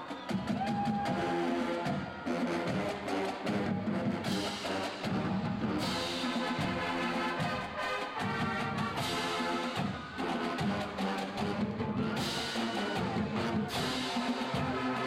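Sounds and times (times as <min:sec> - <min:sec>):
brass playing a tune: 0:01.4 - 0:15.0.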